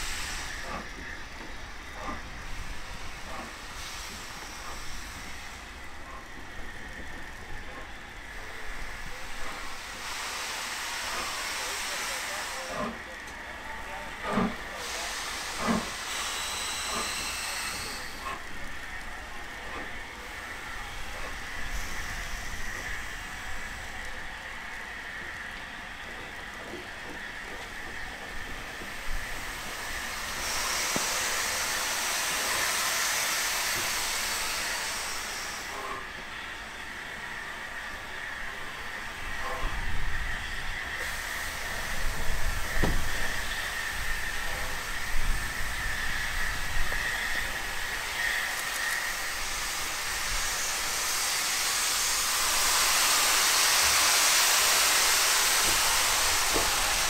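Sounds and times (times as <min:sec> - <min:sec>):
steam hissing: 0:00.0 - 0:57.0
steam locomotive passing: 0:00.0 - 0:57.0.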